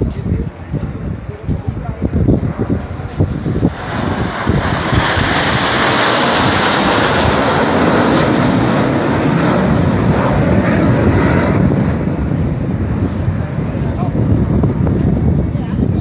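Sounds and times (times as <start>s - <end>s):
jet aircraft passing overhead: 0.6s - 16.0s.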